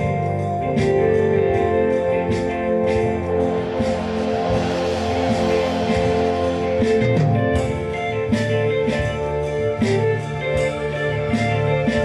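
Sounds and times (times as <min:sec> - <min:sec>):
guitar-led band music: 0:00.0 - 0:12.0
percussion beat: 0:00.0 - 0:12.0.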